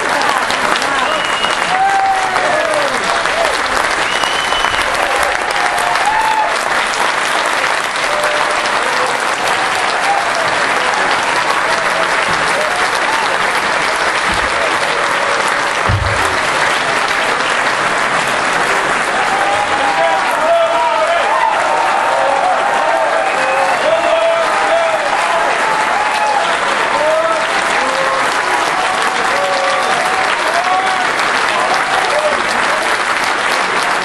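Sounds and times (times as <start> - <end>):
audience applauding: 0.0 - 34.0.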